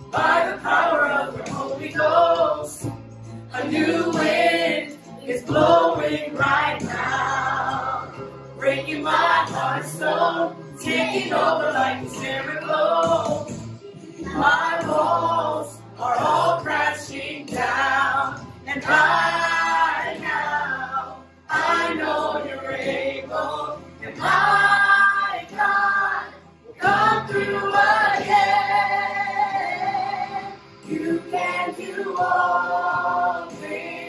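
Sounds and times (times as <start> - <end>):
group singing in unison: 0.0 - 34.0.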